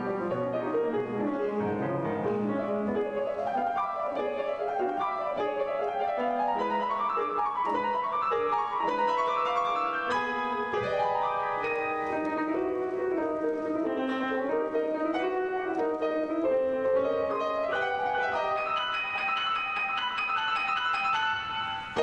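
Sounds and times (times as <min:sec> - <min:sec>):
solo grand piano: 0:00.0 - 0:22.0.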